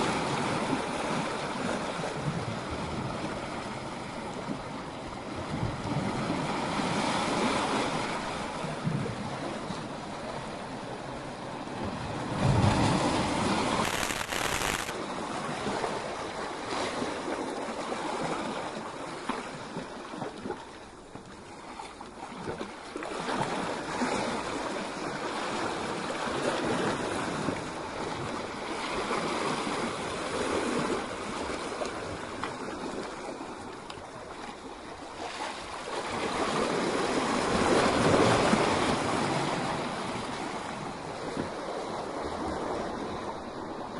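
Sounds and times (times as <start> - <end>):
waves breaking over rocks: 0.0 - 20.7, 21.4 - 43.9.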